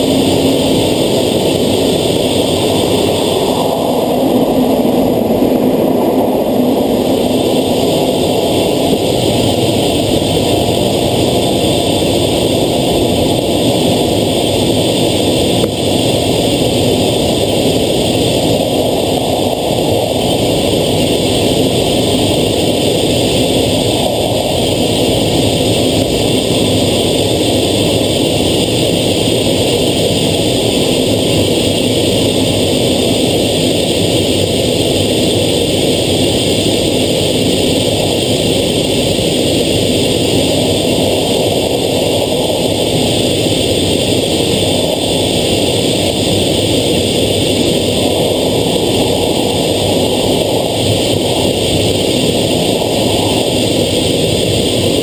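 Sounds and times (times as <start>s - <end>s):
jet engine and airflow noise: 0.0s - 55.0s.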